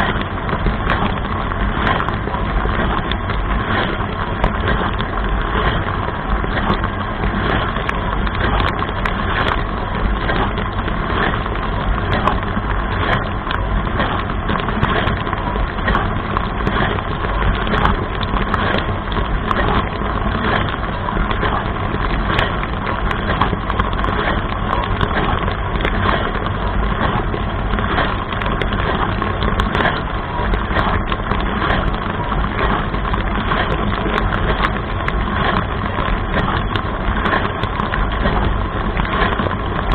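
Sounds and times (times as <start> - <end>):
dishwasher pump drone: 0.0 - 39.9
water jets splashing: 0.0 - 39.9.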